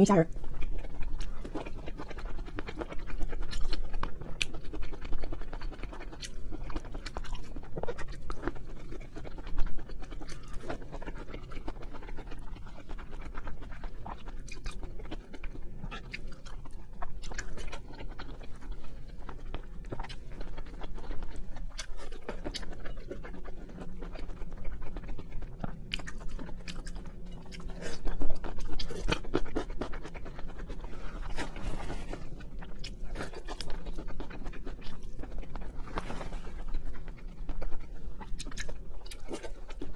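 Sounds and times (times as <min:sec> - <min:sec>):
close chewing with wet mouth clicks: 0:00.1 - 0:39.9.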